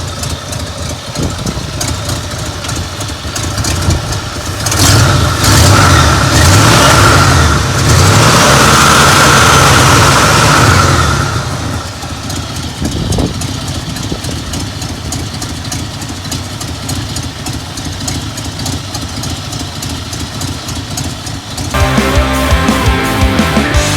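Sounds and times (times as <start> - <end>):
pickup engine revving and idling: 0.0 - 23.9.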